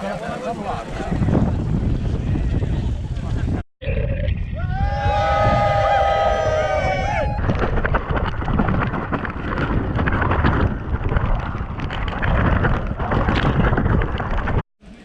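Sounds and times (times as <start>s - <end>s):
wind buffeting microphone: 0.0s - 14.6s.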